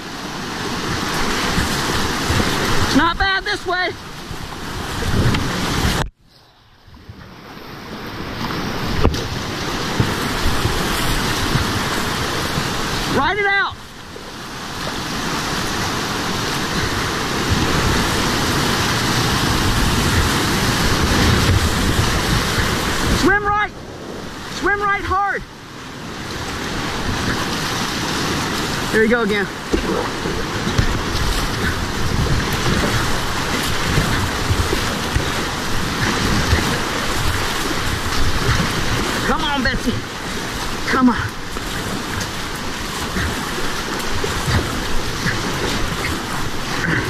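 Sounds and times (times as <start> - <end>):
wind buffeting microphone: 0.0 - 13.2, 14.0 - 47.0
whitewater rushing and splashing: 0.0 - 47.0.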